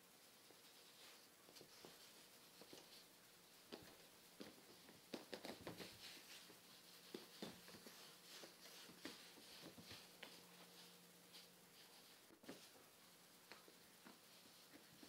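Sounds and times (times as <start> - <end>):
kittens' claws scratching fabric: 0.4 - 12.8.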